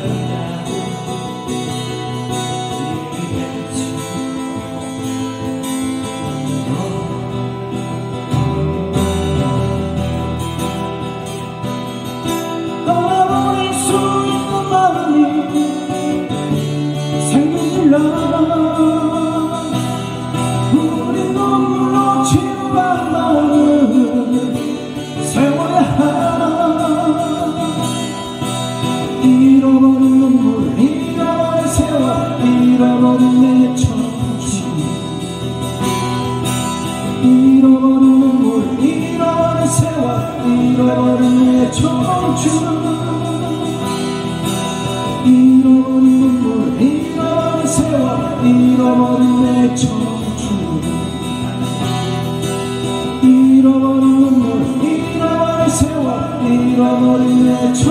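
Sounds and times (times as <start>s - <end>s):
man singing: 0.0s - 10.3s, 12.2s - 57.9s
acoustic guitars playing: 0.0s - 57.9s.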